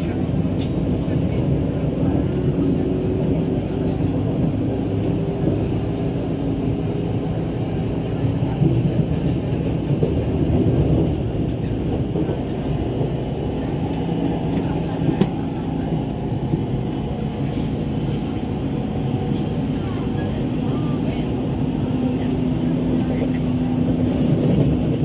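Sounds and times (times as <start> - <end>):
train wheels running on rail: 0.0 - 25.0.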